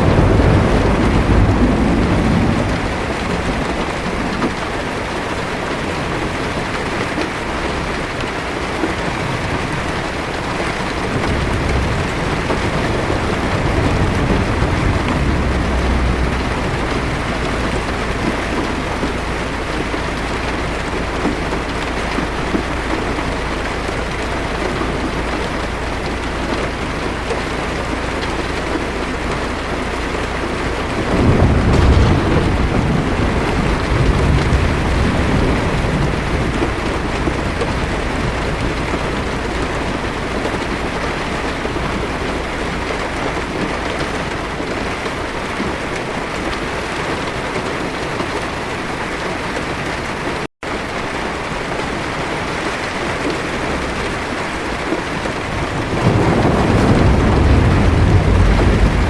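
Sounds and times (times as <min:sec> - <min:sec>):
heavy rain on car roof: 0:00.0 - 0:59.0
thunder rumble: 0:00.0 - 0:59.0.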